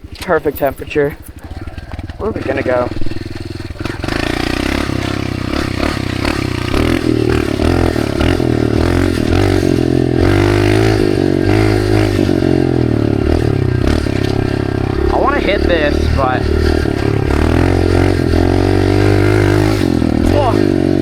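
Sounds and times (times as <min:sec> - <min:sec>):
bike clattering over rough ground: 0:00.0 - 0:21.0
dirt bike engine revving: 0:00.0 - 0:21.0.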